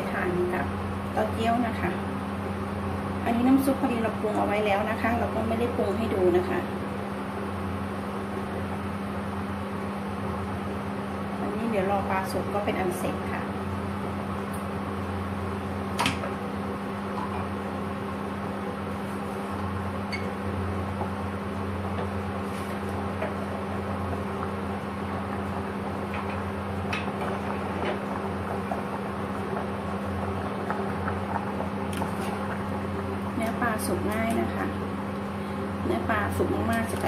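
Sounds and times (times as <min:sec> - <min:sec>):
cooktop electrical hum: 0:00.0 - 0:37.0
cooling fan whir: 0:00.0 - 0:37.0.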